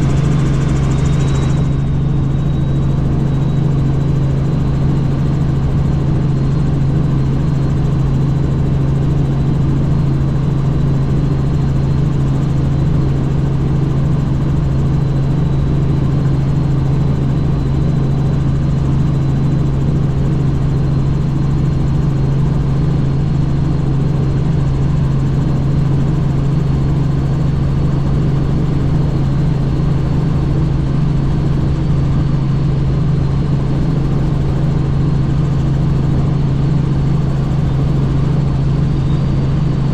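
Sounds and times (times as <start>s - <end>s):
helicopter rotor drone: 0.0s - 39.9s
high turbine whine: 0.0s - 39.9s.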